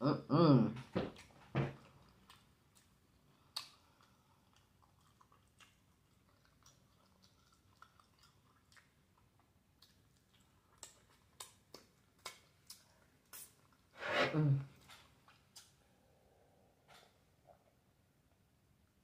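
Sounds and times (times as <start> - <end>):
person chewing food: 1.0 - 14.0, 14.7 - 17.8.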